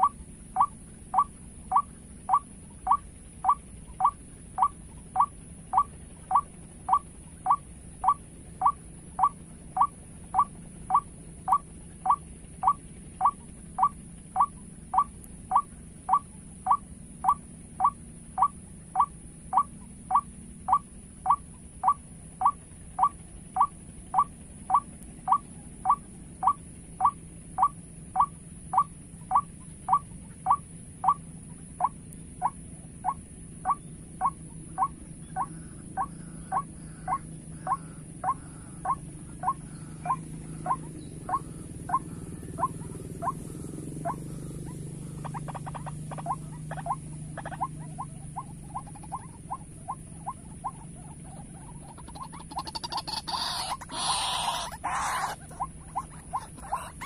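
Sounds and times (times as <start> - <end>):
steady high whine: 0.0 - 57.0.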